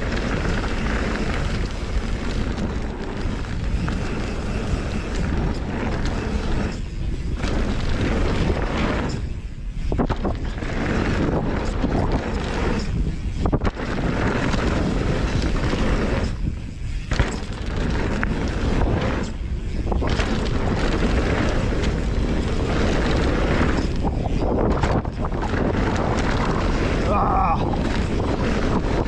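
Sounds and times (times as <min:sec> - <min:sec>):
bike rattling on landings: 0:00.0 - 0:29.0
bike tyres rolling on dirt: 0:00.0 - 0:29.0
wind rushing over microphone: 0:00.0 - 0:29.0.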